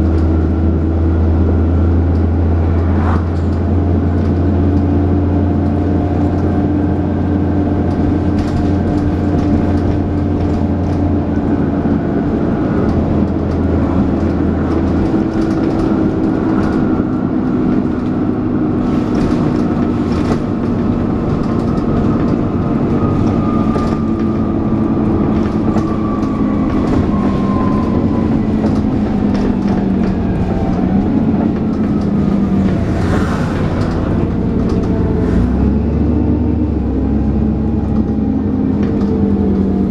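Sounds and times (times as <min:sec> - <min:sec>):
bus engine whining: 0:00.0 - 0:39.9
low hum: 0:00.1 - 0:39.9.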